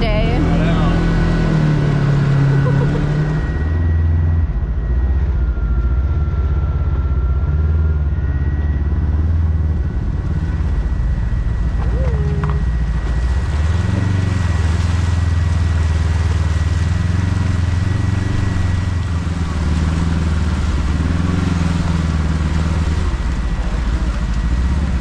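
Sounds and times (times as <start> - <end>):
faint high whine: 0.0 - 25.0
gravel road noise: 0.0 - 25.0
utility vehicle engine running: 0.0 - 25.0.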